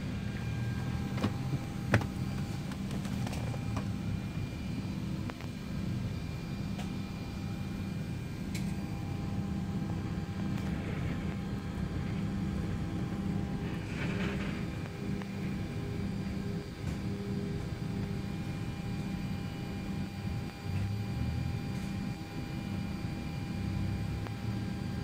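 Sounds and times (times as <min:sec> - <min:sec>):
aircraft cabin low hum: 0:00.0 - 0:25.0
faint whining tones: 0:00.0 - 0:25.0.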